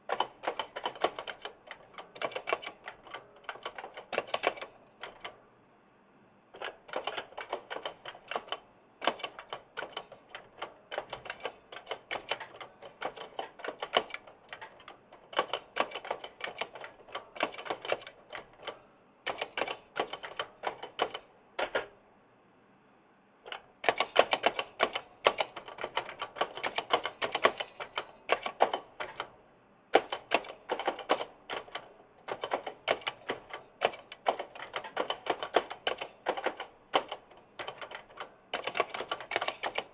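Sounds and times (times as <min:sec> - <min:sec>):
mechanical keyboard typing: 0:00.0 - 0:05.4, 0:06.6 - 0:21.9, 0:23.5 - 0:39.9.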